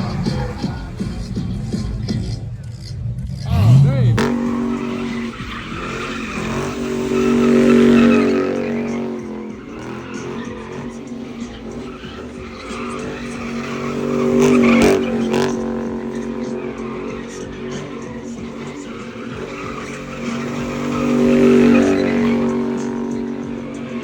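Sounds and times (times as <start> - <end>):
car engine at high revs: 0.0 - 24.0
tyres squealing: 0.0 - 24.0.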